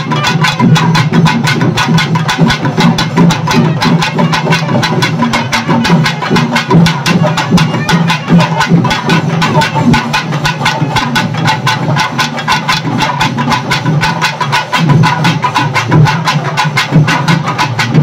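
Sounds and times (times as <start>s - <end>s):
rapid drum strokes: 0.0s - 18.0s.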